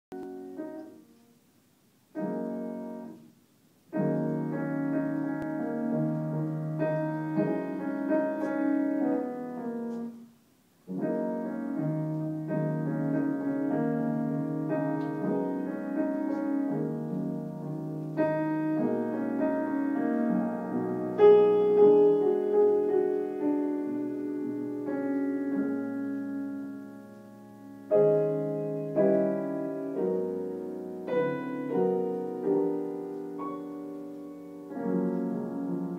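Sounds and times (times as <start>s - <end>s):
piano chords and melody: 0.1s - 1.5s, 2.1s - 35.9s.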